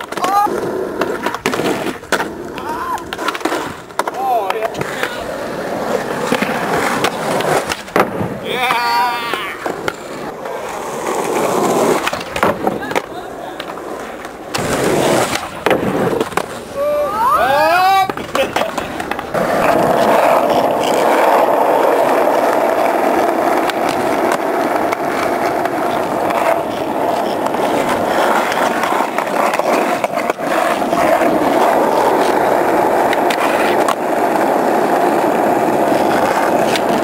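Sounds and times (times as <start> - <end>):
skateboard clacks: 0.0 - 37.0
skateboard wheels rolling on concrete: 0.0 - 37.0.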